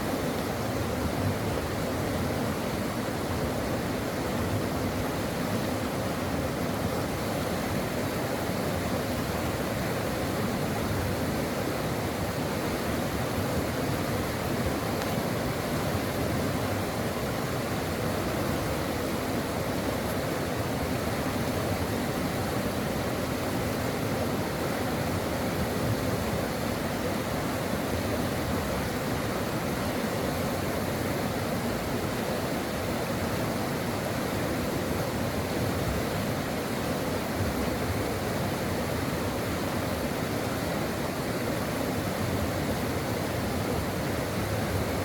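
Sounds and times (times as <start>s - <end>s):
brook water running: 0.0s - 45.0s.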